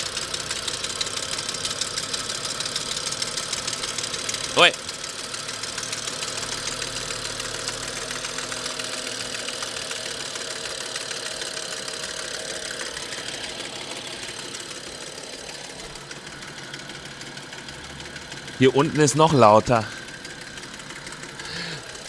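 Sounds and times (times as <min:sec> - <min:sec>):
engine running: 0:00.1 - 0:19.0, 0:19.9 - 0:22.0.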